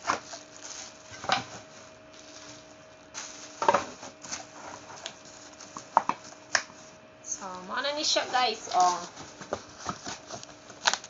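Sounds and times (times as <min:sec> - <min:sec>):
plastic packaging crinkling: 0:00.0 - 0:06.9, 0:08.5 - 0:11.0.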